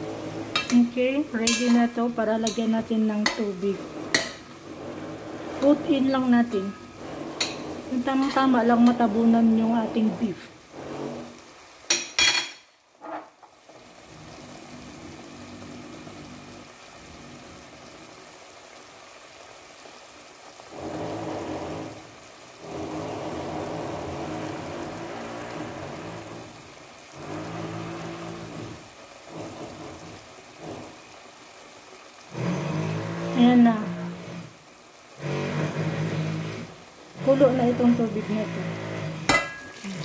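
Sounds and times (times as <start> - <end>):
stew bubbling in a pot: 0.0 - 40.0.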